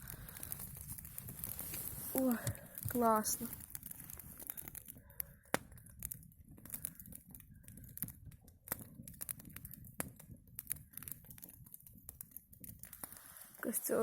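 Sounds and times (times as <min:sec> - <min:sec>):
low fire rumble: 0:00.0 - 0:14.0
twig fire snaps and pops: 0:00.0 - 0:14.0.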